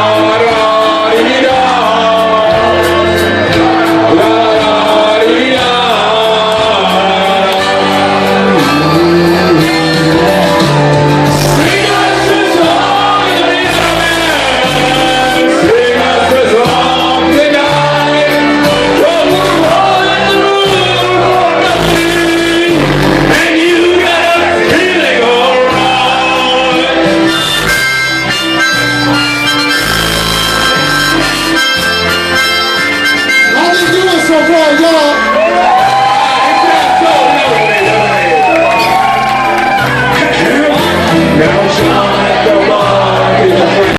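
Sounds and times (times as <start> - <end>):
live band music: 0.0 - 43.9
singer belting melody: 0.0 - 43.9.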